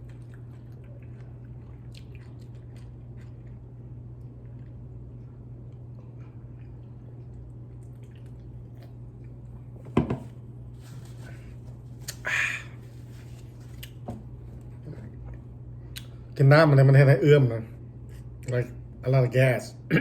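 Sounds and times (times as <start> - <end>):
eating and drinking noises: 0.0 - 16.4
steady low hum: 0.0 - 20.0.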